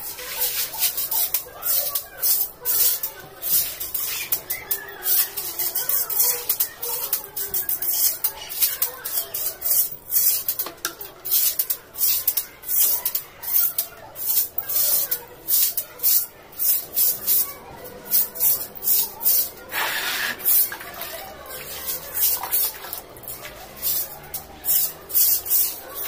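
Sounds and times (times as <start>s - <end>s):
stiff broom sweeping tiled floor: 0.0s - 26.0s.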